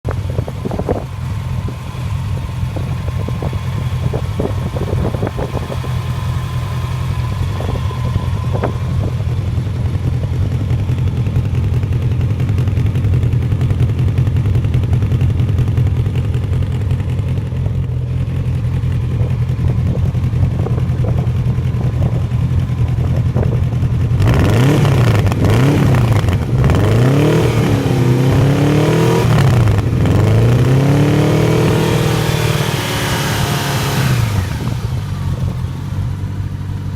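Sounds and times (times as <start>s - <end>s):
motorcycle engine idling: 0.0s - 36.9s
motorcycle engine revving: 0.0s - 36.9s.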